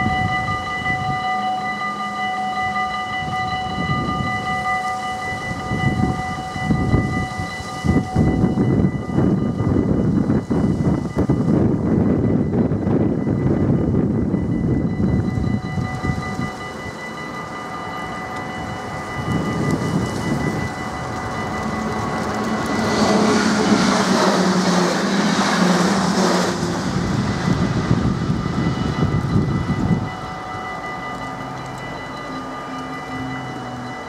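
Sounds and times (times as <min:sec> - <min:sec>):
level crossing warning bells: 0:00.0 - 0:34.0
train wheels passing: 0:00.0 - 0:34.0.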